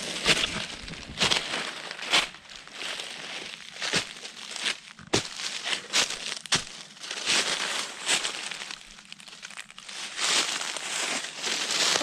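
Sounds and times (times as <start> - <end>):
dry leaves crunching and rustling: 0.0 - 12.0.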